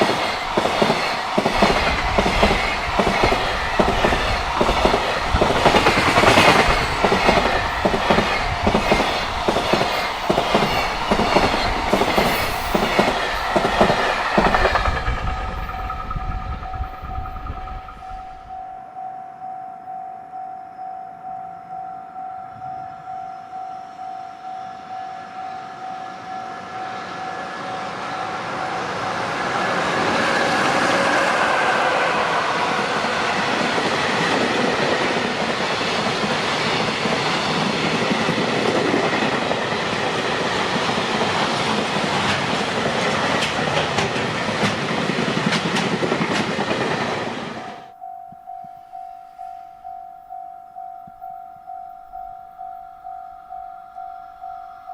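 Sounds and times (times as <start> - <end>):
train rumbling past: 0.0 - 18.7, 22.5 - 54.9
level-crossing warning bell: 0.0 - 46.3, 46.9 - 54.9.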